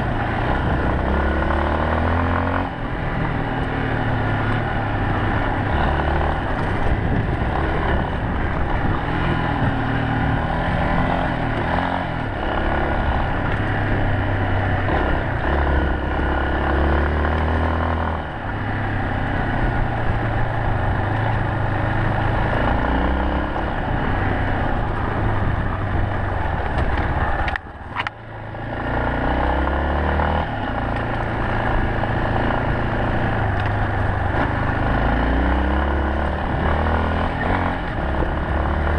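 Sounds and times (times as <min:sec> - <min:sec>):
motorcycle engine revving: 0:00.0 - 0:38.9
steady rushing noise: 0:00.0 - 0:38.9.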